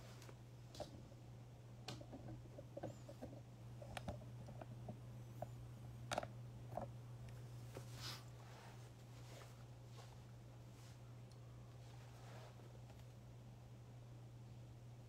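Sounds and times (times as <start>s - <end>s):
soft handling clicks and rustles: 0.0s - 1.2s, 1.8s - 13.2s
steady low hum: 0.0s - 15.0s.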